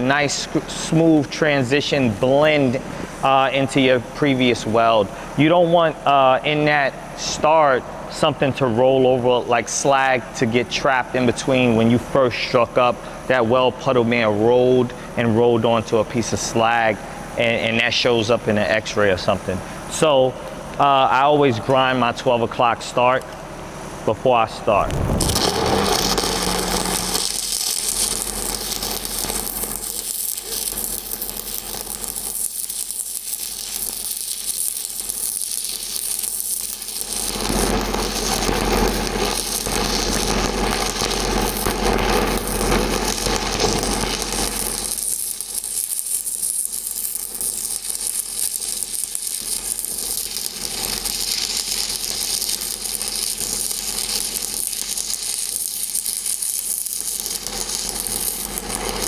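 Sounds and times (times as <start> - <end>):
welding arc crackling: 0.0 - 24.0, 24.7 - 59.0.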